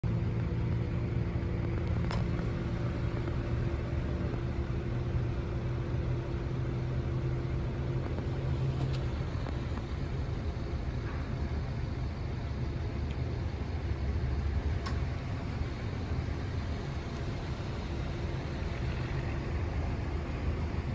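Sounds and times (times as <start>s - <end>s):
low engine rumble: 0.0s - 20.9s.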